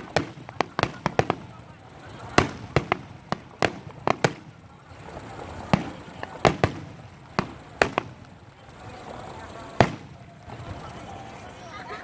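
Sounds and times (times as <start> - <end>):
fireworks bangs: 0.0 - 11.6.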